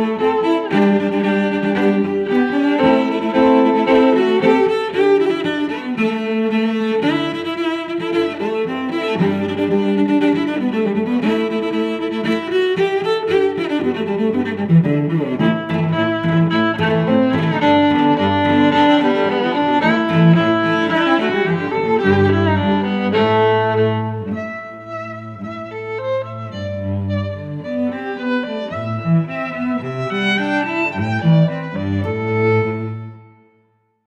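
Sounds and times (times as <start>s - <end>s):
orchestral strings melody: 0.0s - 33.7s.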